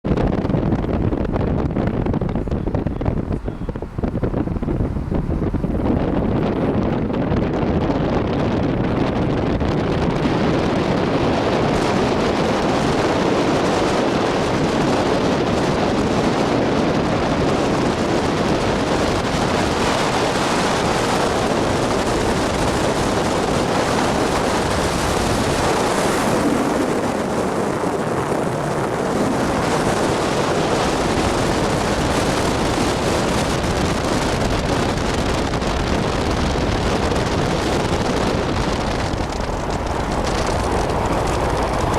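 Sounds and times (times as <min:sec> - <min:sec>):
car wind and road noise: 0:00.0 - 0:41.9
wind buffeting microphone: 0:00.0 - 0:41.9.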